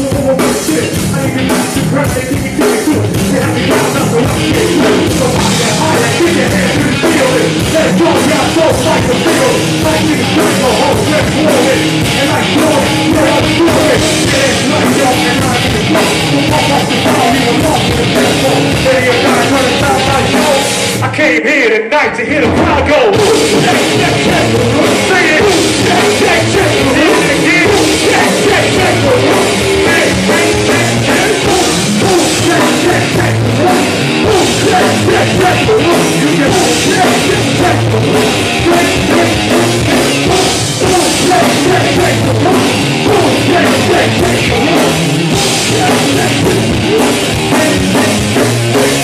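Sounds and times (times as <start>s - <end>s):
live rock band playing: 0.0s - 21.3s, 22.2s - 49.0s
driving drum kit: 0.0s - 21.4s, 22.2s - 49.0s.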